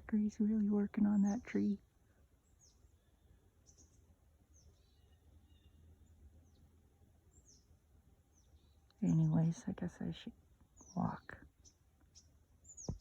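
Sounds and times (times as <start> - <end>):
faint low outdoor rumble: 0.0 - 13.0
songbirds chirping: 0.0 - 13.0.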